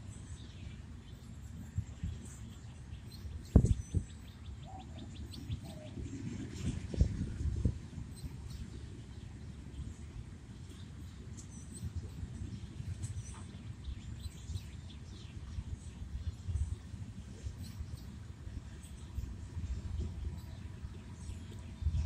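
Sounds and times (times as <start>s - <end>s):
small birds chirping: 0.0s - 6.1s, 7.7s - 22.0s
steady low rumble: 0.0s - 22.0s.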